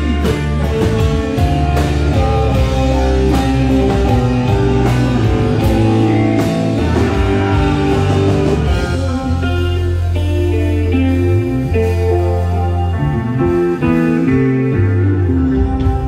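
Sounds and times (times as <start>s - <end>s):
loud electric guitar: 0.0s - 16.0s
low sustained bass notes: 0.0s - 16.0s.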